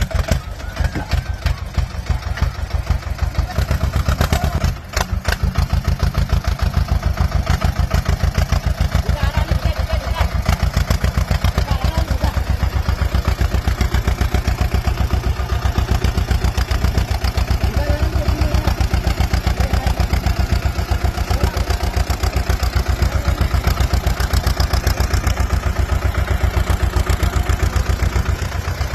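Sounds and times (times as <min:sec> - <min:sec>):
tractor engine chugging: 0:00.0 - 0:28.9.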